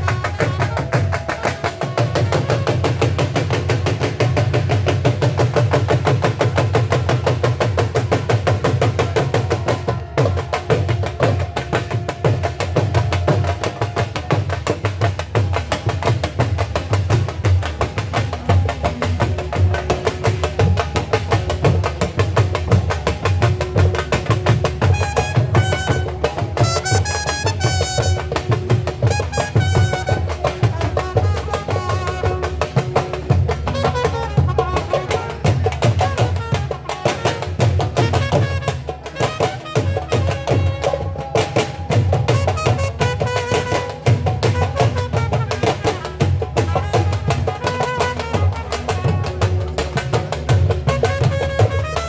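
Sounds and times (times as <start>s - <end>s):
fast drumming: 0.0s - 52.0s.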